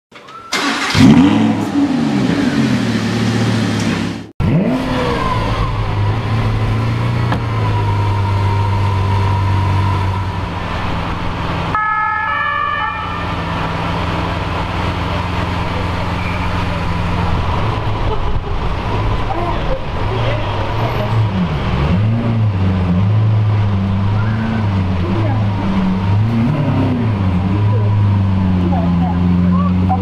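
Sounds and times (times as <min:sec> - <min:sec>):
car engine starting and revving: 0:00.5 - 0:11.7, 0:13.4 - 0:30.0.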